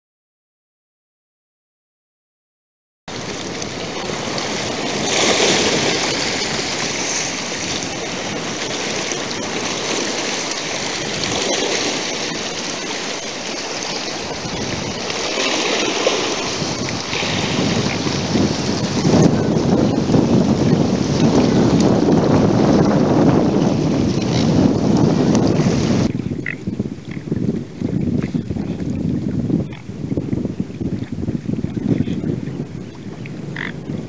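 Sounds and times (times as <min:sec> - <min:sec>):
choppy water lapping: 0:03.1 - 0:34.0
wind: 0:03.1 - 0:34.0.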